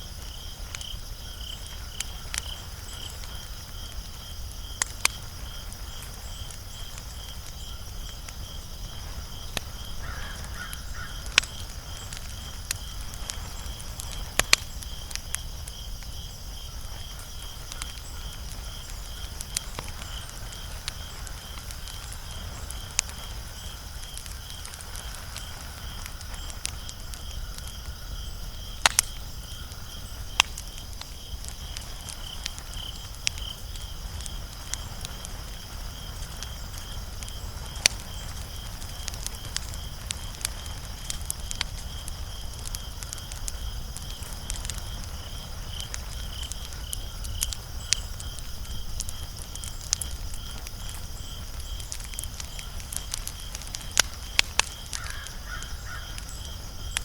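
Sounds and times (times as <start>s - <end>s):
cricket chirping: 0.0s - 57.0s
wood fire crackling and popping: 0.0s - 57.0s.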